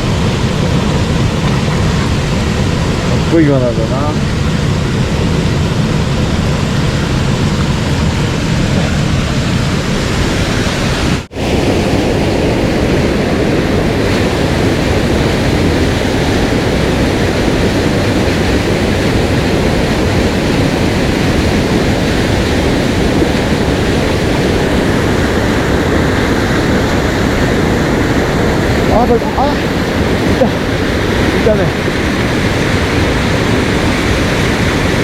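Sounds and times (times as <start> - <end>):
fast stream water rushing: 0.0 - 35.0.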